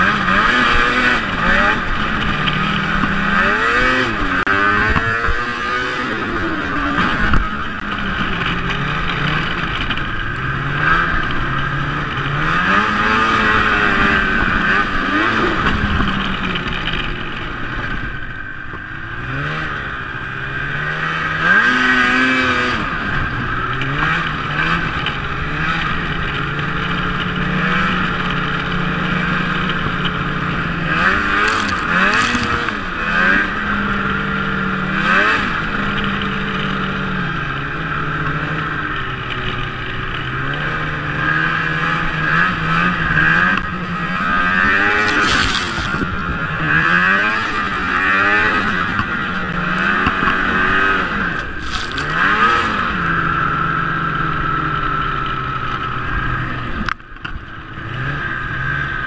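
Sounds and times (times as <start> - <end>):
snowmobile engine: 0.0 - 59.0.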